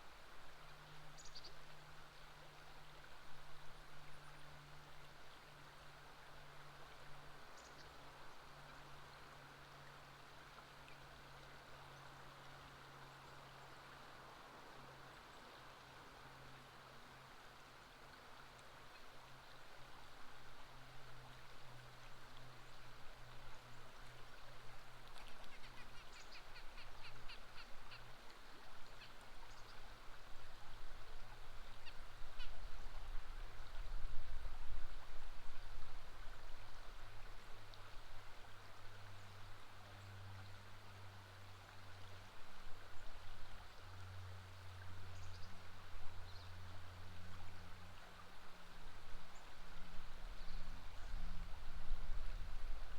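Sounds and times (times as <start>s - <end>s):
river water flowing: 0.0s - 52.9s.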